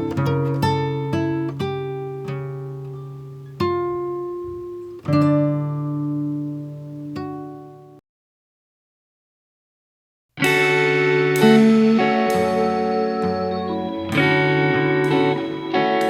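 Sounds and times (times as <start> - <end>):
acoustic guitar plucked chords: 0.0 - 8.0, 10.4 - 16.0.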